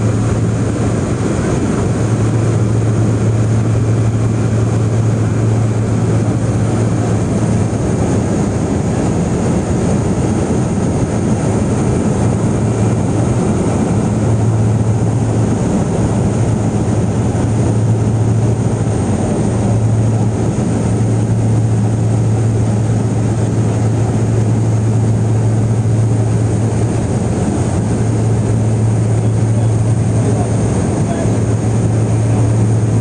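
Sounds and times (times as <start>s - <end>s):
propeller plane engines droning: 0.0s - 33.0s.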